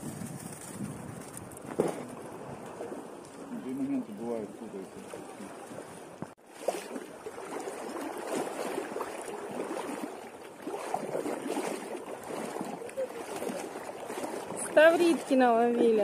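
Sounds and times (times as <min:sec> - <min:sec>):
sea water sloshing and lapping: 0:00.0 - 0:16.0
small splashes: 0:01.9 - 0:16.0.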